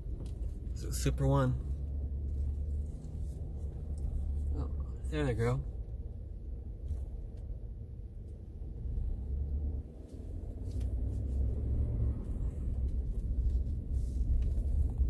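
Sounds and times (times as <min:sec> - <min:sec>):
vehicle engine rumble inside cabin: 0:00.0 - 0:15.0.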